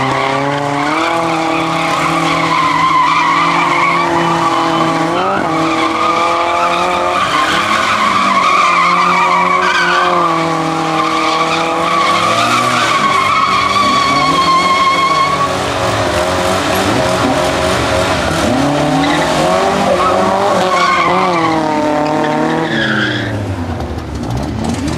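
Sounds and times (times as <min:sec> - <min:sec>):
car engine revving: 0:00.0 - 0:24.9
tyres squealing: 0:00.7 - 0:23.3.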